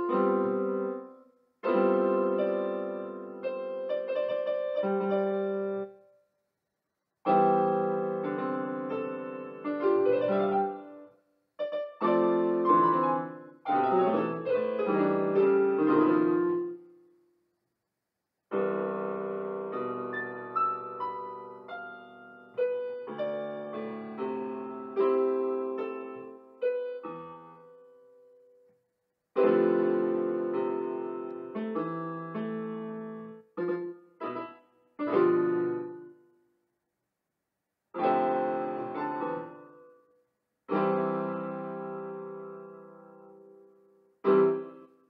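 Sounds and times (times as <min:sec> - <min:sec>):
solo piano keyboard piece: 0:00.0 - 0:06.2, 0:07.2 - 0:17.1, 0:18.5 - 0:36.5, 0:37.9 - 0:45.0.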